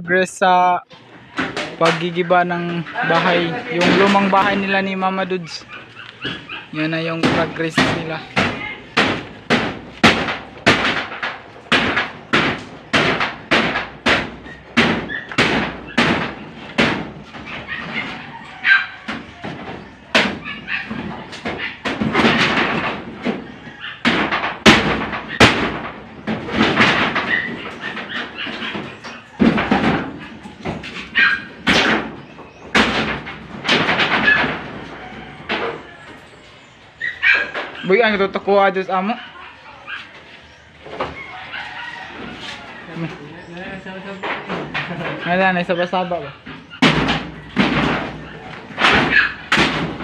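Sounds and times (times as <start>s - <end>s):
hammering blows: 0.9s - 39.0s, 40.7s - 50.0s.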